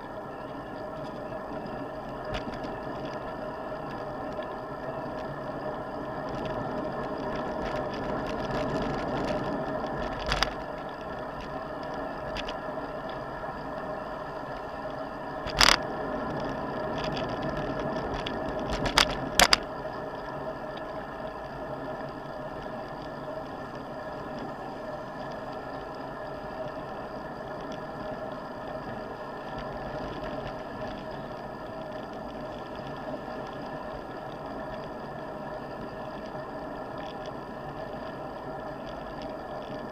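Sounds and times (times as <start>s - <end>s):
bicycle rolling noise: 0.0s - 39.9s.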